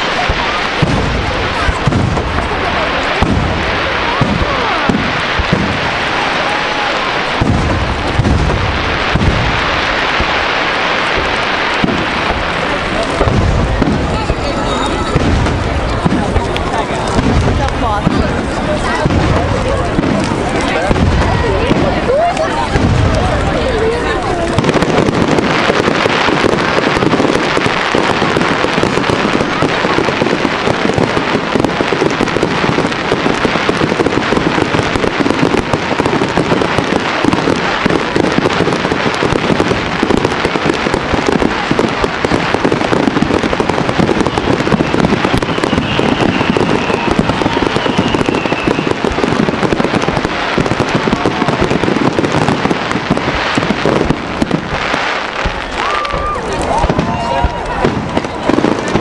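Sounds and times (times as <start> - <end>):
rapid firework bangs: 0.0 - 59.0.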